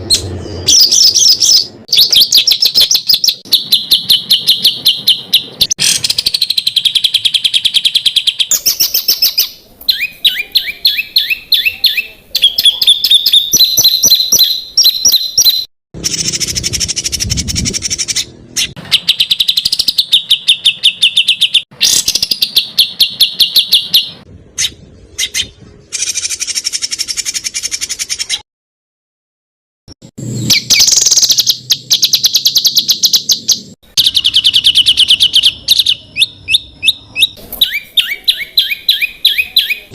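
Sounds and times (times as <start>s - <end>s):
songbird chirps and trills: 0.0s - 28.4s, 30.2s - 39.9s.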